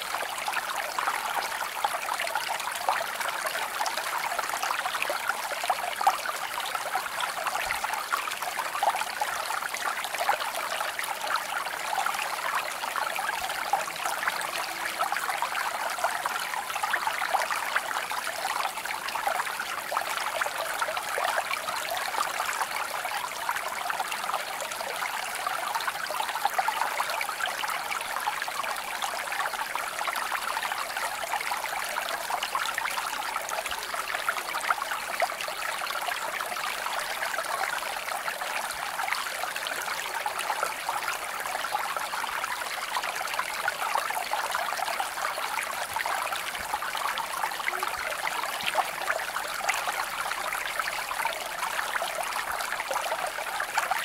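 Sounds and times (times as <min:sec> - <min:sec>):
creek water babbling over stones: 0:00.0 - 0:54.0.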